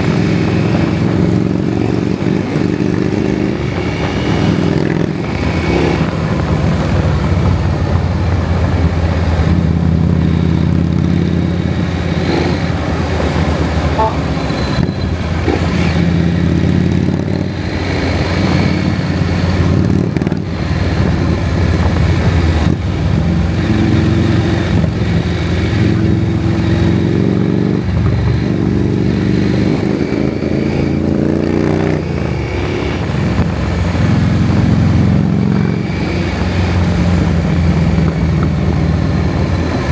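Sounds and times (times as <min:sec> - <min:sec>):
motorcycle engine accelerating: 0:00.0 - 0:39.9
rush of riding noise: 0:00.0 - 0:39.9.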